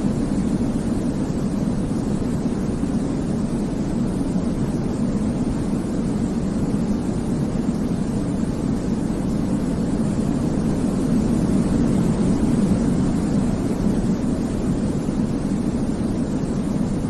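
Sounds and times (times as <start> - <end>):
white noise: 0.0 - 17.0.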